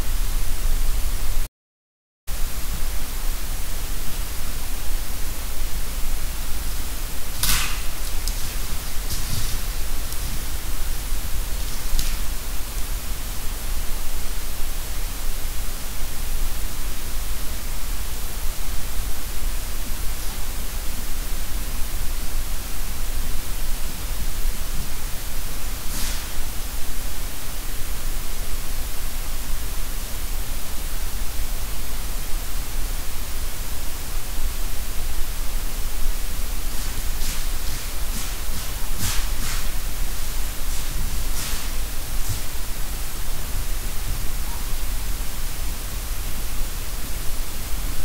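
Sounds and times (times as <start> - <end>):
loud recorder hiss: 0.0 - 1.5, 2.3 - 48.0.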